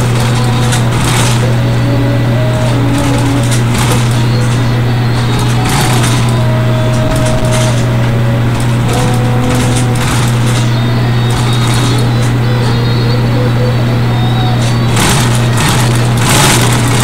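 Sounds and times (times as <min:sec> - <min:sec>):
crackling and rustling bursts: 0:00.0 - 0:13.0, 0:14.3 - 0:17.0
loud low hum: 0:00.0 - 0:17.0.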